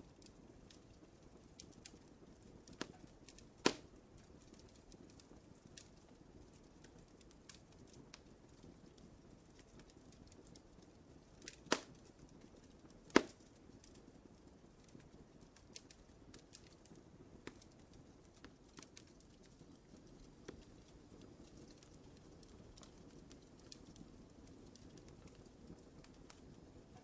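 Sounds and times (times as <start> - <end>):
fire roaring in fireplace: 0.0 - 27.0
loud sharp pops of fire: 1.4 - 10.7, 11.4 - 14.0, 14.8 - 27.0.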